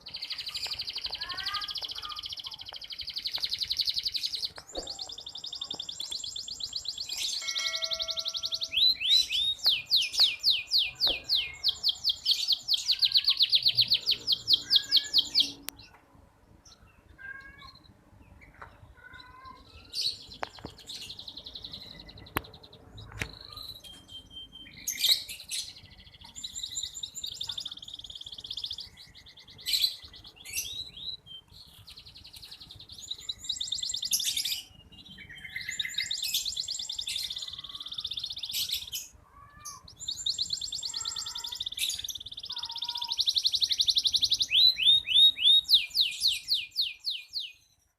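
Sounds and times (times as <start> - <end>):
canary singing trills: 0.0 - 16.0, 16.6 - 47.9.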